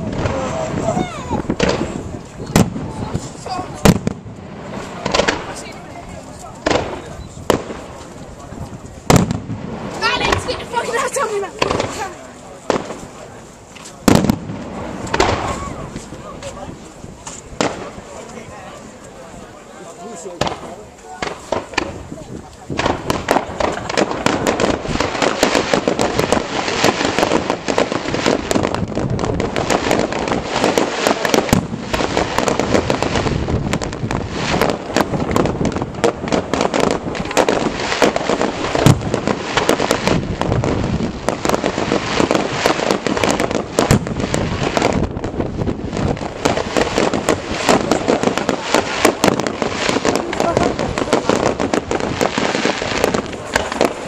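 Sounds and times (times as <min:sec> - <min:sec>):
fireworks bangs: 0:00.0 - 0:54.0
fireworks crackling and popping: 0:00.0 - 0:54.0.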